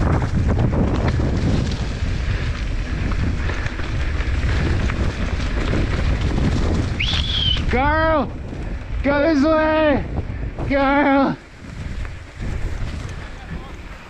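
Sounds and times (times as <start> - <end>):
bike rattling over bumps: 0.0 - 14.0
bike tyres rolling on dirt: 0.0 - 14.0
wind buffeting microphone: 0.0 - 14.0.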